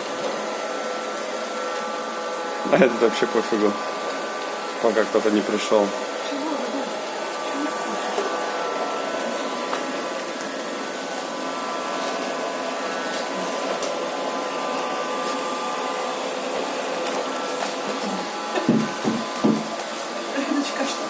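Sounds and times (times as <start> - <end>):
robot vacuum cleaner whirring: 0.0 - 21.0.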